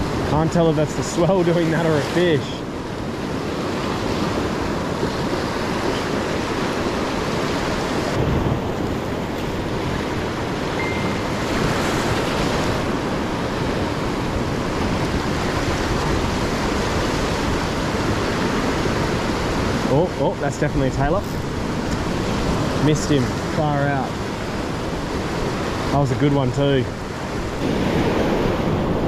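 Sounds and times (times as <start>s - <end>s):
waves breaking over rock reef: 0.0s - 29.0s
wind buffeting microphone: 0.0s - 29.0s.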